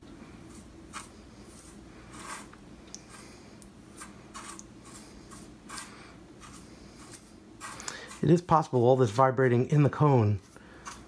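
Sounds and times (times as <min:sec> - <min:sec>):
brush sweeping speaker cone: 0:00.4 - 0:11.0.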